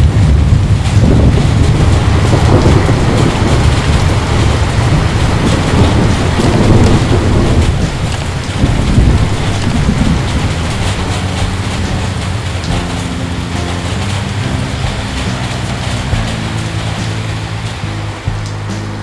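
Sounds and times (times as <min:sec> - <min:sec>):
heavy rain falling: 0:00.0 - 0:19.0
low rumble of thunder: 0:00.0 - 0:19.0.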